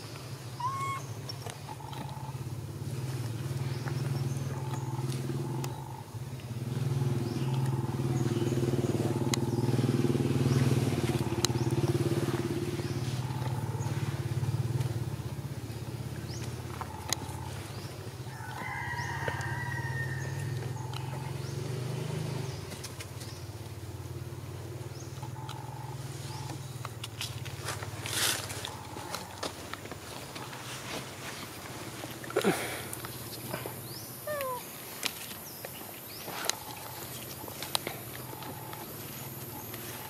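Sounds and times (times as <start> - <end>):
motor engine running: 0.7 - 34.0, 36.1 - 40.0.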